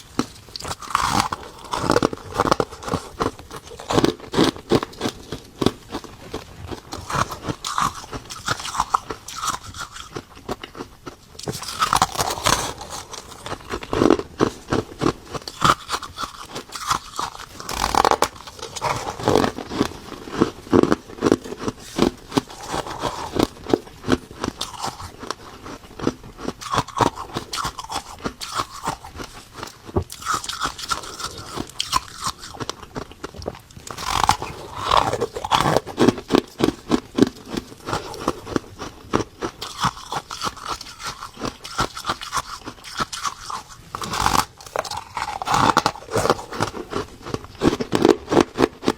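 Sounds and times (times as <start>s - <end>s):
ice crunching being chewed: 0.0s - 48.9s.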